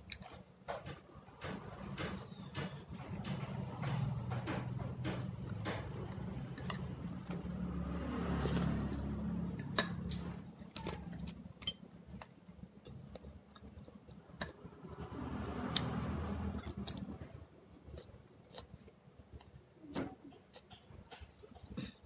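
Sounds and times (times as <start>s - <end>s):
mouth chewing soft bread: 1.2s - 22.0s.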